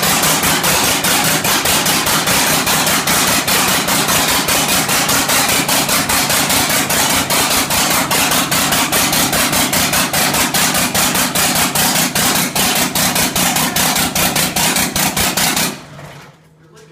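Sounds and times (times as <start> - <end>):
diesel engine knocking: 0.0 - 16.2.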